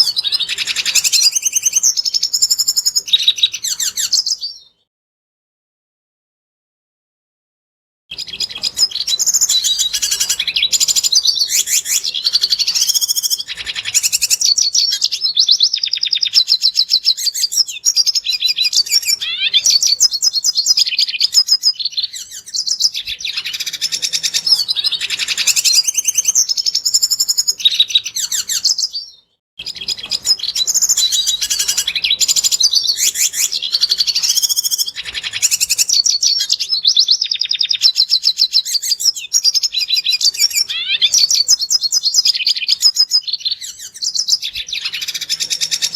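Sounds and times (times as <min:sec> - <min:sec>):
bird twittering song: 0:00.0 - 0:04.9, 0:08.1 - 0:45.9.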